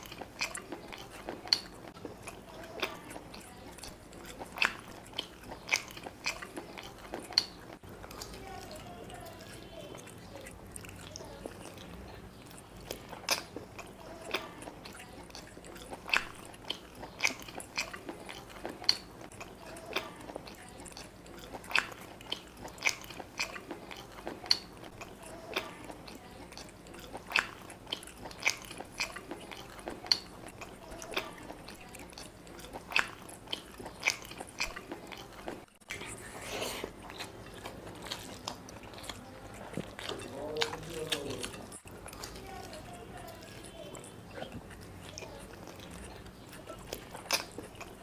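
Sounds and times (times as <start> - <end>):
wet chewing with mouth smacks: 0.0 - 48.0.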